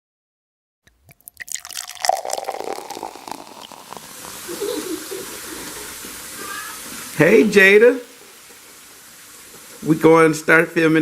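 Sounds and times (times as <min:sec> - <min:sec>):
water splashing and dripping: 0:01.1 - 0:10.2.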